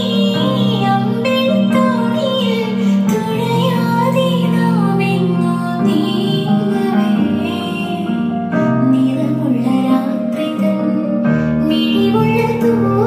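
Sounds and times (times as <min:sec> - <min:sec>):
song with singing voice: 0:00.0 - 0:13.0.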